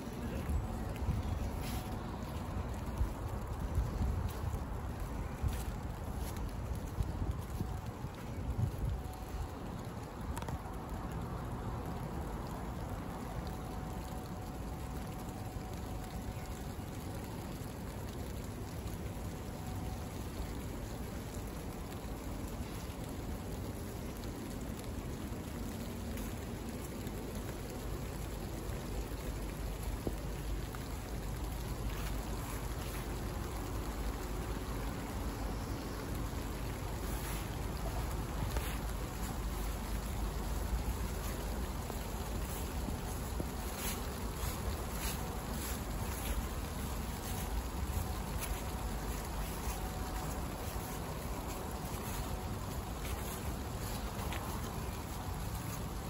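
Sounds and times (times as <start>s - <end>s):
outdoor hiss: 0.0s - 56.0s
wind rumbling on microphone: 0.0s - 56.0s.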